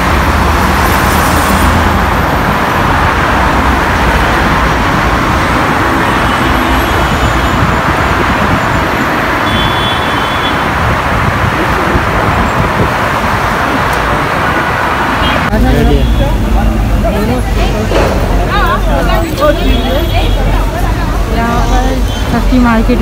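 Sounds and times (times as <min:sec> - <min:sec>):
steady road traffic: 0:00.0 - 0:23.0.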